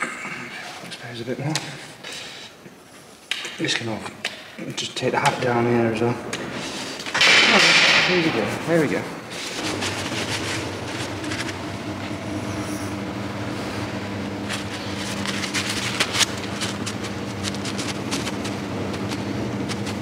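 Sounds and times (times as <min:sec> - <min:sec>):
machine hum: 0:03.8 - 0:20.0.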